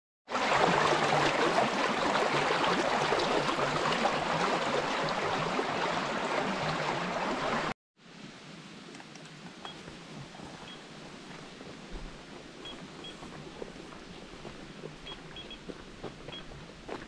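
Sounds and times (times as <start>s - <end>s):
stream running over rocks: 0.3s - 17.0s.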